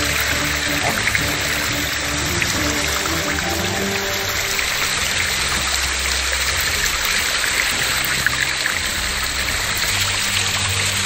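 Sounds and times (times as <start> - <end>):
water splashing over rocks: 0.0 - 11.0.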